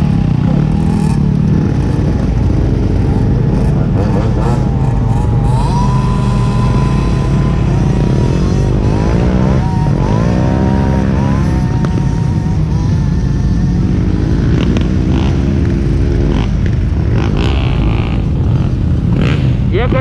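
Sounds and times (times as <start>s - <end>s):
off-road engine revving: 0.0s - 20.0s.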